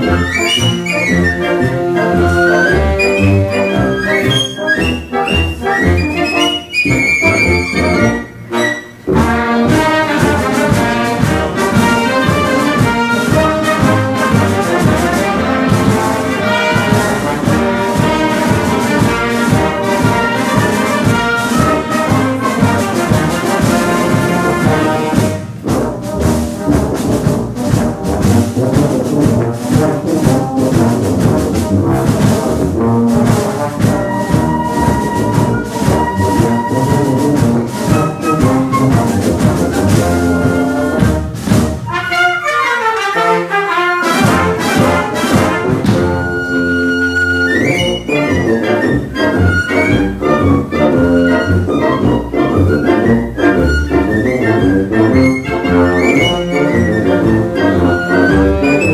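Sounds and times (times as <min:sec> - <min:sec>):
concert wind band playing: 0:00.0 - 0:58.9.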